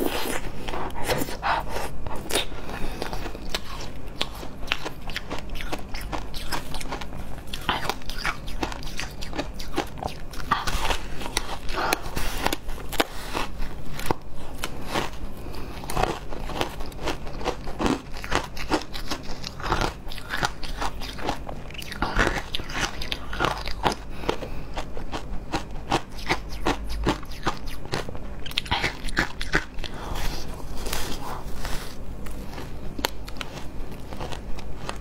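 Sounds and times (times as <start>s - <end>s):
chewing crunchy ice: 0.0s - 35.0s.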